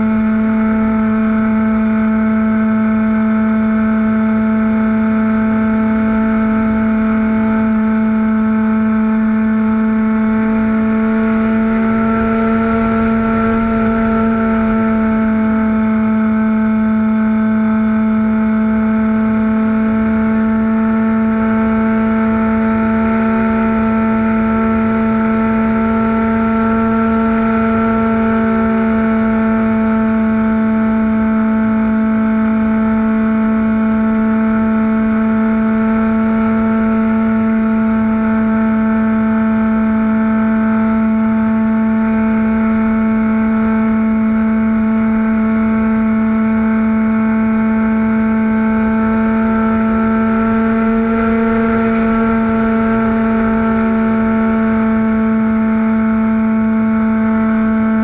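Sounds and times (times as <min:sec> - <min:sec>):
model airplane motor drone: 0:00.0 - 0:58.0.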